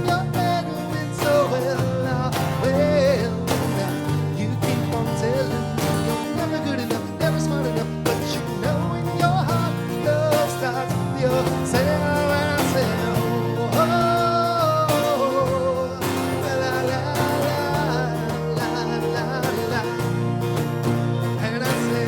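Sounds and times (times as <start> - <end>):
band chords and bass: 0.0 - 22.0
sliding lead guitar melody: 0.0 - 22.0.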